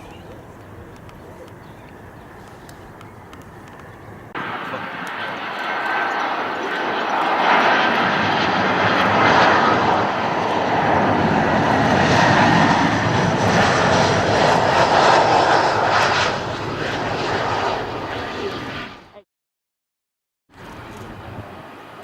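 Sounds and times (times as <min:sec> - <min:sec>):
jet airliner engines roaring: 0:00.0 - 0:19.2.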